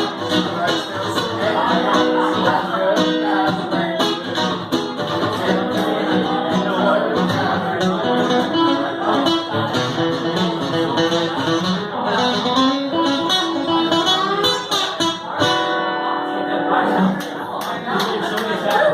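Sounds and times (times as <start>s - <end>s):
country guitar picking and strumming: 0.0s - 18.0s.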